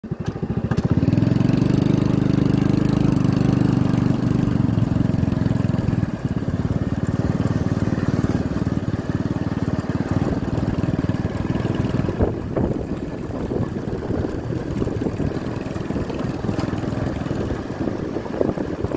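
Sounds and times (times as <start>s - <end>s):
small engine running: 0.1s - 18.9s.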